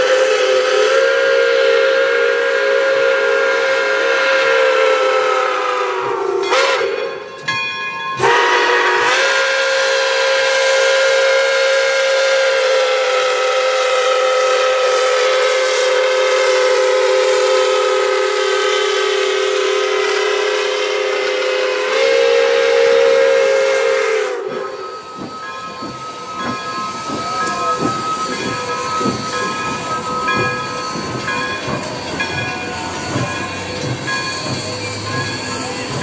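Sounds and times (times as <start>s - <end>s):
steam hissing: 0.0s - 7.0s, 8.2s - 36.0s
steam whistle chord: 0.0s - 7.3s, 8.2s - 33.4s
locomotive exhaust beats: 0.0s - 36.0s.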